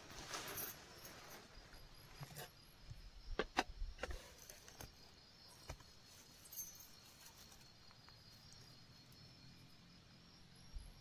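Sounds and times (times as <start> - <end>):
faint crickets chirping: 0.0 - 11.0.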